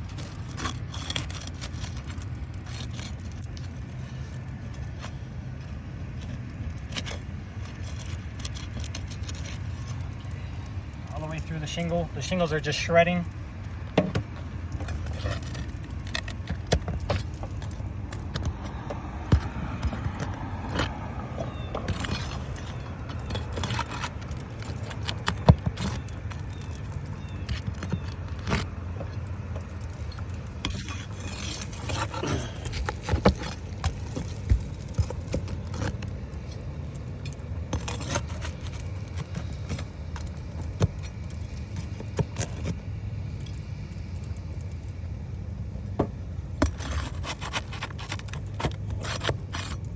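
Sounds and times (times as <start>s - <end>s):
hand tools clinking and scraping: 0.0s - 13.4s, 14.0s - 43.7s, 46.6s - 49.9s.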